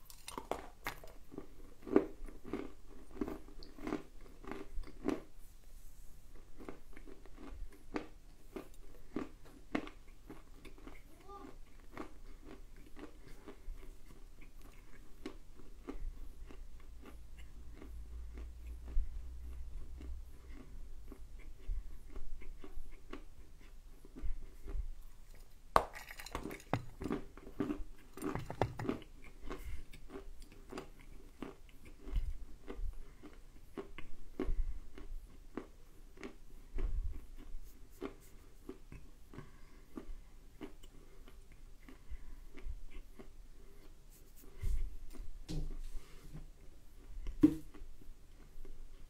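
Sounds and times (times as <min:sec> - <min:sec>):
person crunching and chewing clay: 0:00.0 - 0:05.4, 0:06.3 - 0:45.3.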